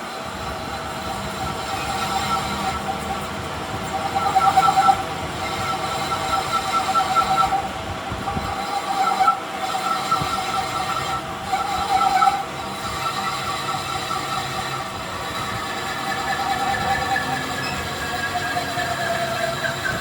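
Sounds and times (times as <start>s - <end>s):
machine squealing on steel: 0.0s - 20.0s
metal grinding noise: 0.0s - 20.0s.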